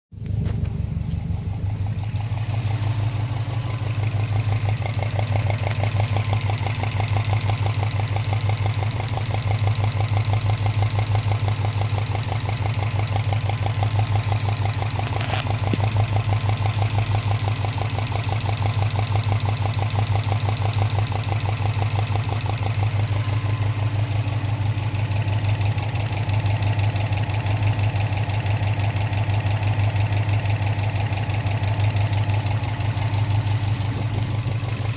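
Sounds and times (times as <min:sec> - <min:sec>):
car engine idling with chugging: 0:00.2 - 0:34.9.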